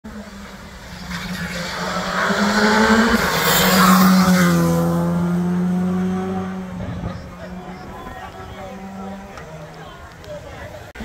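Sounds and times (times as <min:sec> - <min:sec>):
rally car engine driving past: 0:00.1 - 0:09.9.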